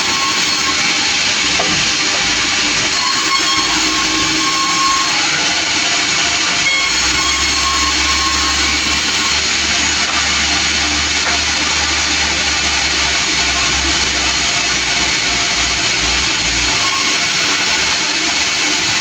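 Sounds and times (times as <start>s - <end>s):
faint saw whine: 0.0s - 18.0s
sawmill saw hissing: 0.0s - 19.0s.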